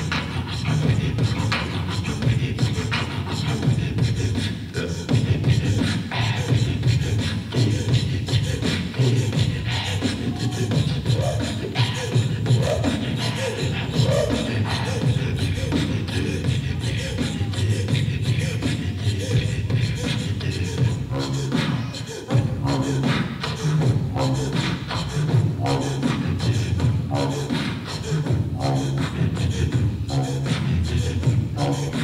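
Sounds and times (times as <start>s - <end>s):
gliding high vocal sounds: 0.0s - 32.0s
rhythmic throat singing: 0.0s - 32.0s
beatbox clicks: 5.1s - 32.0s.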